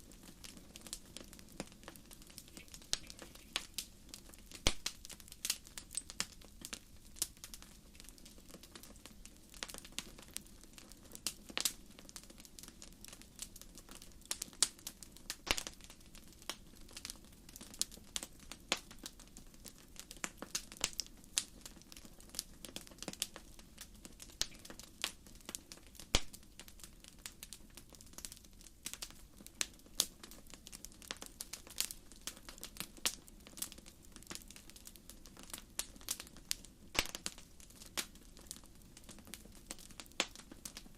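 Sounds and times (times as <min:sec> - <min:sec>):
firewood crackling and popping: 0:00.0 - 0:40.9.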